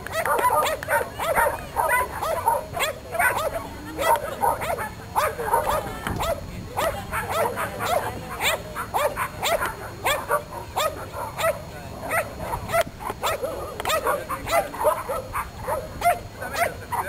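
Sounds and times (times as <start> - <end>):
dog barking: 0.1 - 17.0.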